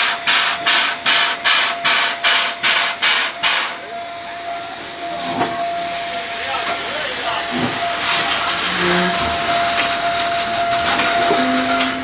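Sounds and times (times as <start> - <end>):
steady hiss of steam: 0.0 - 12.0
steam locomotive chuffing: 0.0 - 12.0.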